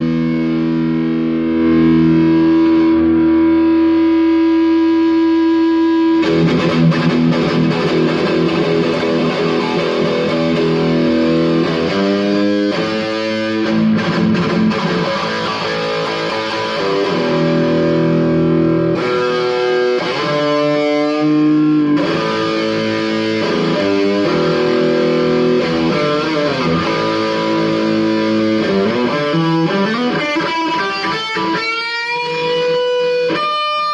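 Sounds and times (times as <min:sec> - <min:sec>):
guitar feedback: 0:00.0 - 0:33.9
overdriven electric guitar: 0:00.0 - 0:33.9.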